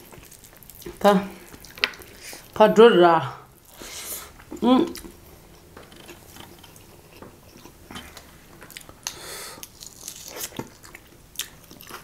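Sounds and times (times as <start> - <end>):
soft chewing: 0.0 - 2.6, 3.6 - 12.0.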